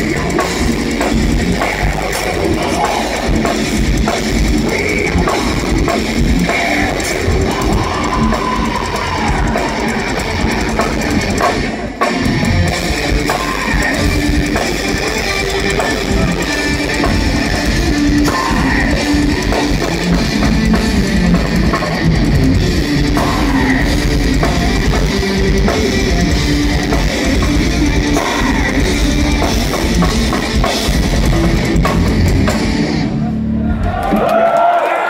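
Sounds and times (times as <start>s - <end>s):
fast drums and cymbals: 0.0s - 33.0s
distorted electric guitars: 0.0s - 34.5s.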